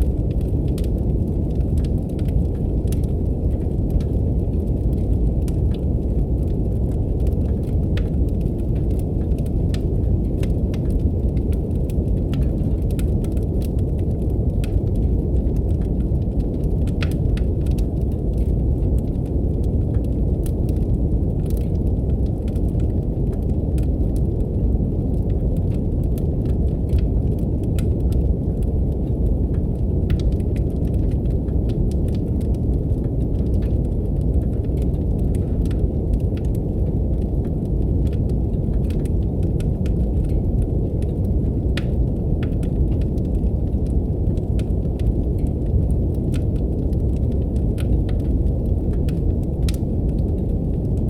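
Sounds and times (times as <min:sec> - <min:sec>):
brown noise rumble: 0:00.0 - 0:51.0
wood fire crackling: 0:00.0 - 0:51.0.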